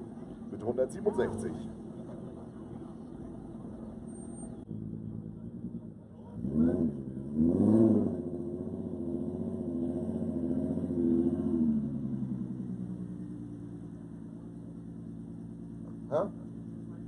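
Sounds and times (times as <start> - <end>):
car engines idling and revving: 0.0 - 17.0.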